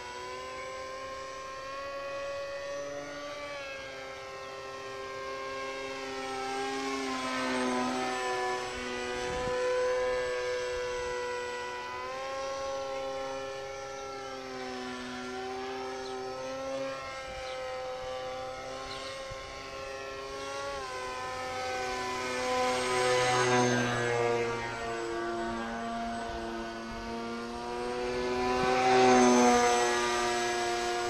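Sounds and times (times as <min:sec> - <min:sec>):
model plane motor droning: 0:00.0 - 0:31.0.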